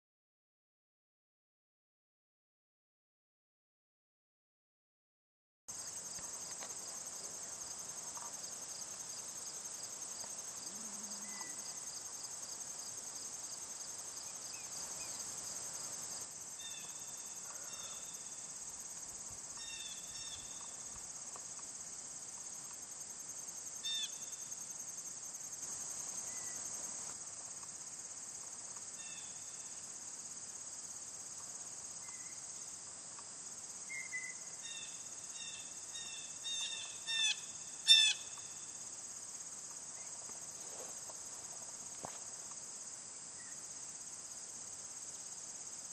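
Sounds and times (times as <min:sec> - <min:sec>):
insects trilling: 0:05.7 - 0:45.9.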